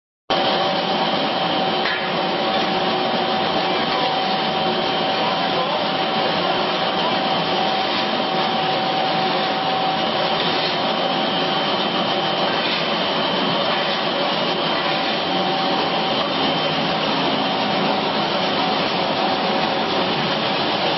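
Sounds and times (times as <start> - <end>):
pellet mill machine running: 0.3 - 20.9.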